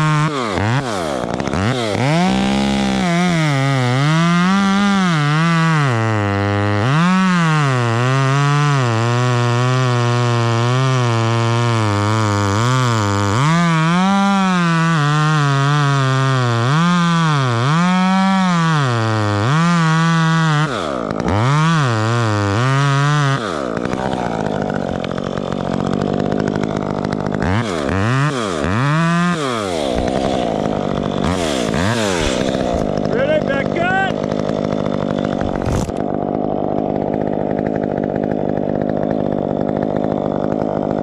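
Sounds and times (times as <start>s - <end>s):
chainsaw revving: 0.0s - 41.0s.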